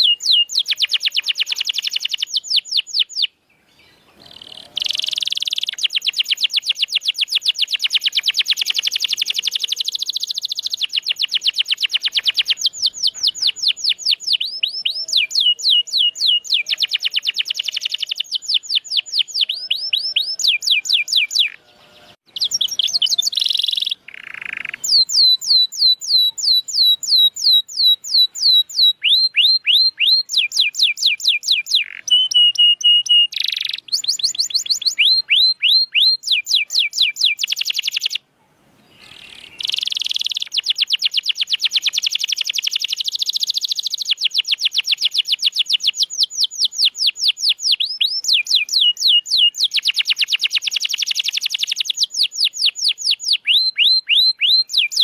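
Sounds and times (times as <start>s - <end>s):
canary singing trills: 0.0s - 38.2s, 38.8s - 55.0s.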